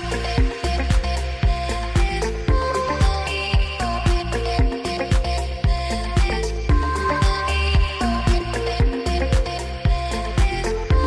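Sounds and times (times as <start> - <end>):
bass line: 0.0 - 11.0
music with punchy drum beat: 0.0 - 11.0.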